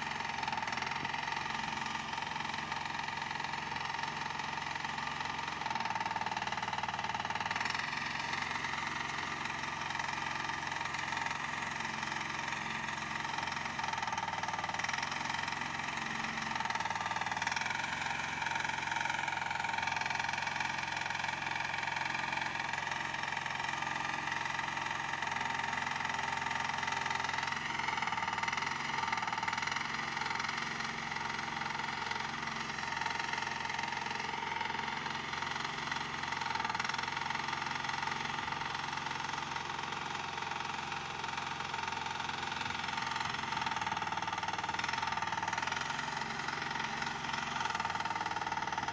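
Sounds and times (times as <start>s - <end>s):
mini excavator engine running: 0.0s - 48.9s.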